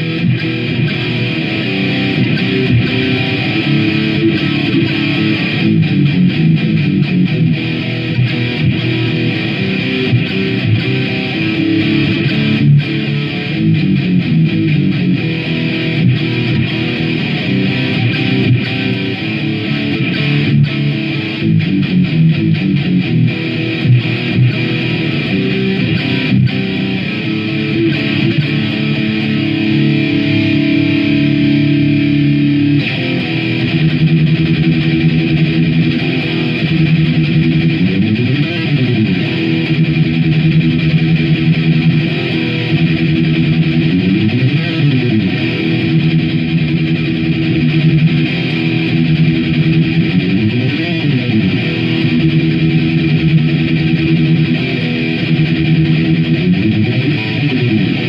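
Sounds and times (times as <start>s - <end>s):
distorted electric guitar riff: 0.0s - 58.0s.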